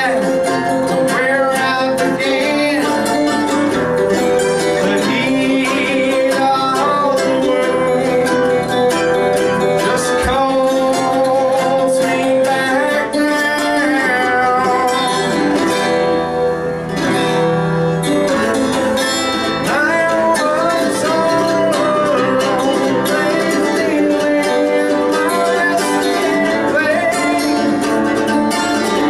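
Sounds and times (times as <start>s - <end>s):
man singing: 0.0s - 17.1s, 18.0s - 29.0s
acoustic guitar strumming: 0.0s - 29.0s.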